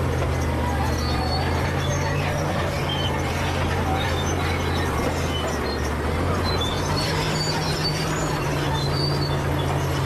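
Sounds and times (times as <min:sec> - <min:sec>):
diesel engine running under load: 0:00.0 - 0:10.0.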